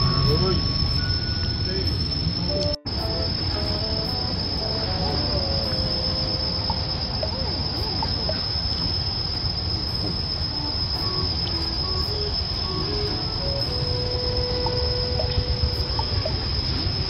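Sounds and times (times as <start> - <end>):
high-pitched insect drone: 0.0 - 17.0
low background noise: 0.0 - 17.0.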